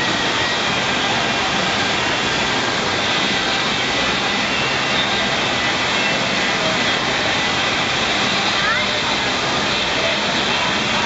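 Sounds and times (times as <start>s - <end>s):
rushing water on wave machine: 0.0s - 11.0s.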